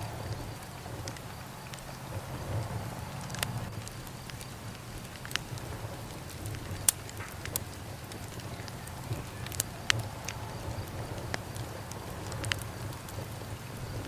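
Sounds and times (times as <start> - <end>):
low steady rumble: 0.0 - 14.0
wood fire crackling and popping: 0.0 - 14.0.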